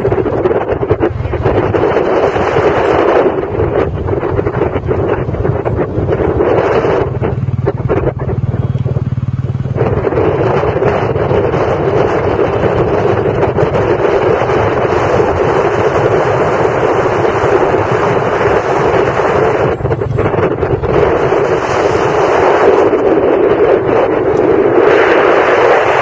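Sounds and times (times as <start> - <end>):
motorcycle engine running: 0.0 - 26.0
wind buffeting on microphone: 0.0 - 26.0.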